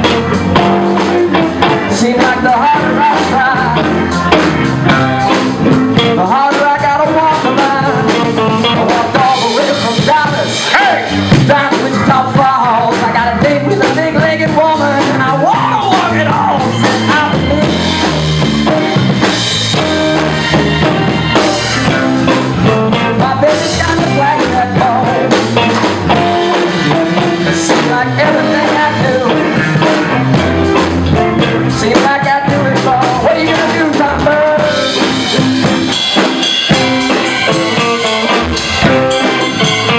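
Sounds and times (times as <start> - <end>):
blues-rock band playing: 0.0 - 39.9.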